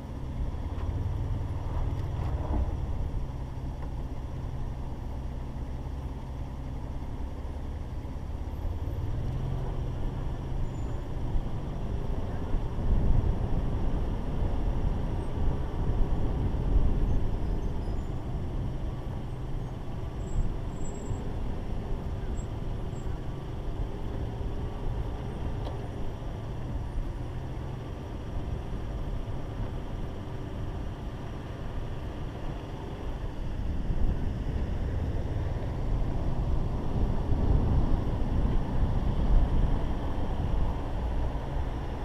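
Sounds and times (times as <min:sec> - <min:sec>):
engine rumbling: 0:00.0 - 0:42.0.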